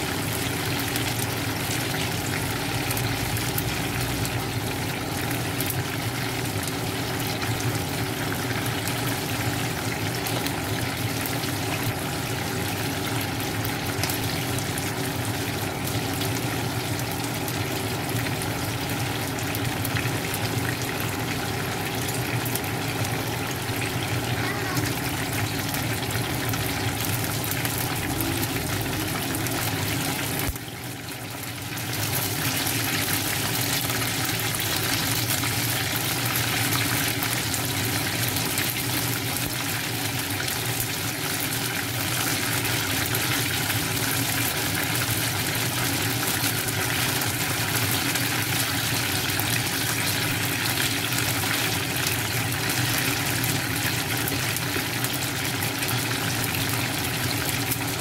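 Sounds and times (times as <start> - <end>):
oil sizzling and bubbling in a pan: 0.0 - 58.0.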